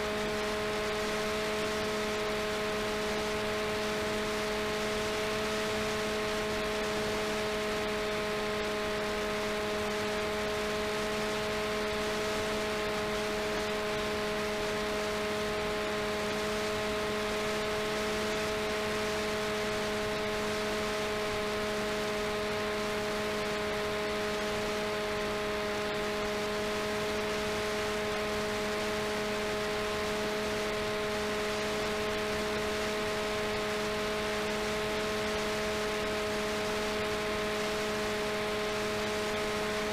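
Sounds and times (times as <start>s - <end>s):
electric motor and propeller hum: 0.0s - 39.9s.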